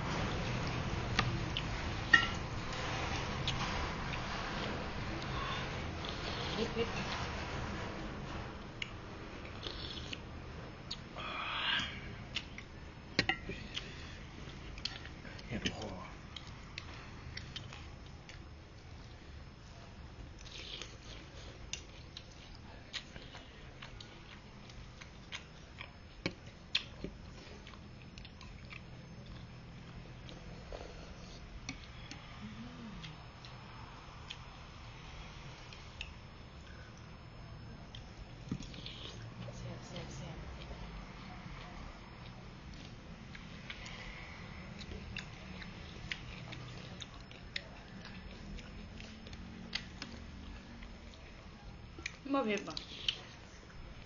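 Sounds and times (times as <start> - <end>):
steady low hum: 0.0 - 54.0
person chewing: 3.4 - 6.7, 8.8 - 19.4, 20.2 - 37.1, 37.8 - 39.4, 41.6 - 54.0.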